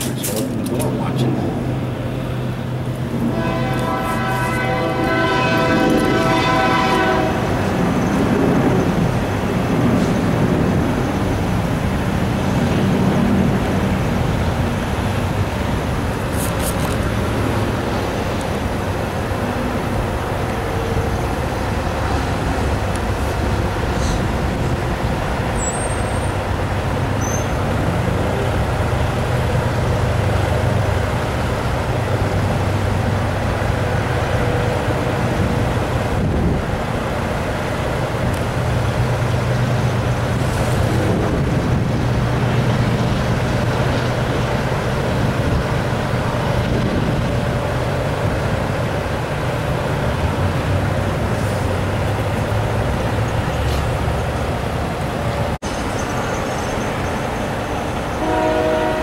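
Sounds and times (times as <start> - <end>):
heavy engines rumbling: 0.0 - 59.0
traffic noise: 0.0 - 59.0.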